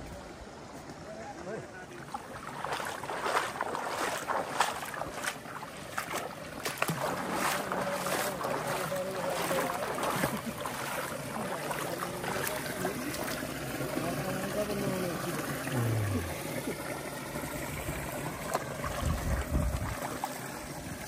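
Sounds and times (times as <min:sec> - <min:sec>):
river water splashing: 0:00.0 - 0:21.0.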